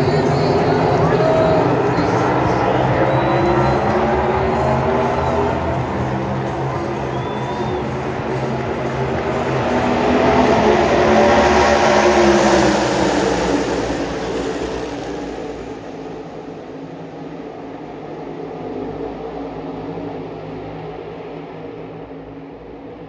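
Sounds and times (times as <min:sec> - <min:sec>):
race cars roaring past: 0:00.0 - 0:23.0.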